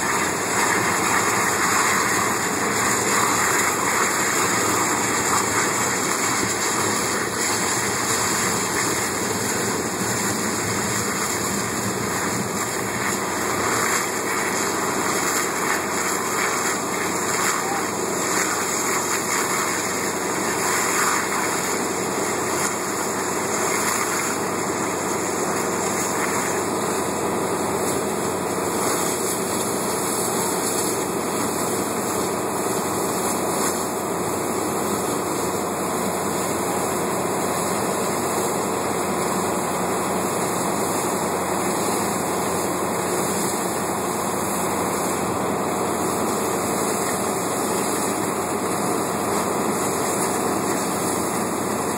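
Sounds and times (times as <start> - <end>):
gas fire roaring: 0.0 - 51.9
hose streams spraying: 0.0 - 51.9.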